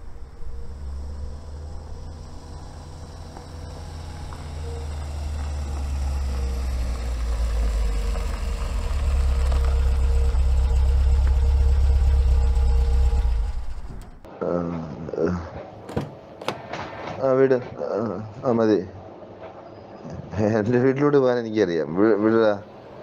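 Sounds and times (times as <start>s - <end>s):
vehicle engine rumbling: 0.0s - 20.3s.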